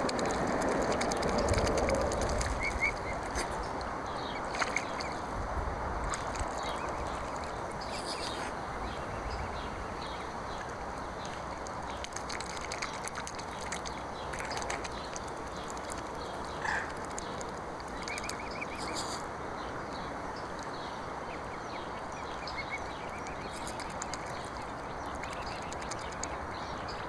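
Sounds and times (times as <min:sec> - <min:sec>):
rushing water: 0:00.0 - 0:27.0
waterfowl clicks and splashes: 0:00.0 - 0:27.0.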